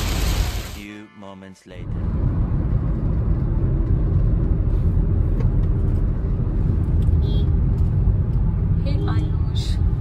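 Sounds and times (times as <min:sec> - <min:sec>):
car engine and road noise: 0:01.7 - 0:10.0.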